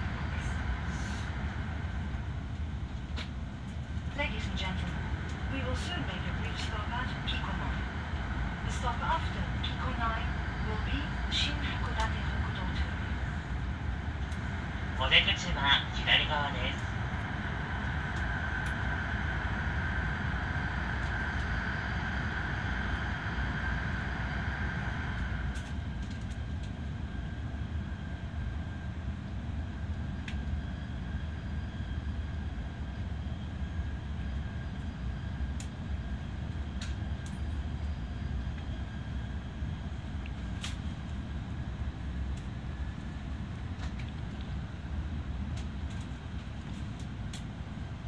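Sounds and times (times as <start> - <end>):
high steady whine: 0.0 - 48.0
train low rumble: 0.0 - 48.0.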